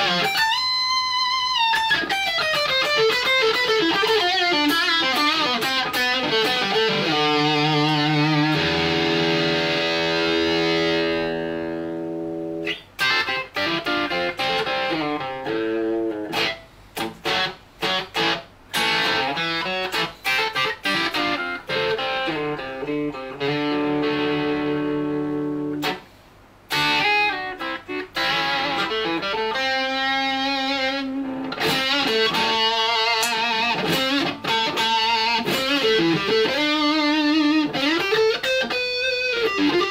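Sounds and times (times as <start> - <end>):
electric guitar through amp: 0.0 - 39.9.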